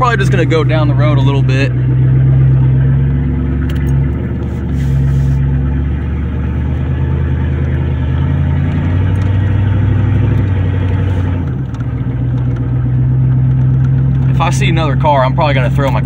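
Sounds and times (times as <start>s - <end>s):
loud pickup truck engine: 0.0s - 16.0s.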